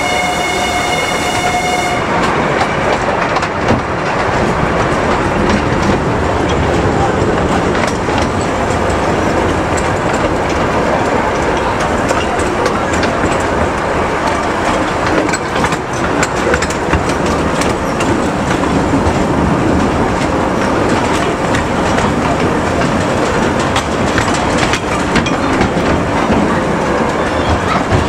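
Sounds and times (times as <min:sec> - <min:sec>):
rail joint clicks: 0:00.0 - 0:28.0
train wheels rumbling on rail: 0:00.0 - 0:28.0.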